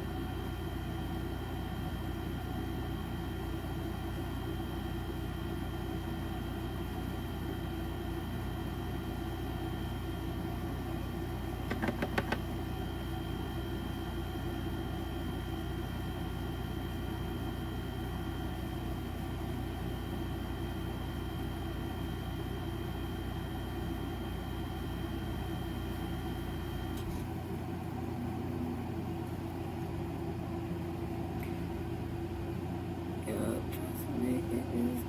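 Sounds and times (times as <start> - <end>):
electric fan humming: 0.0 - 35.0.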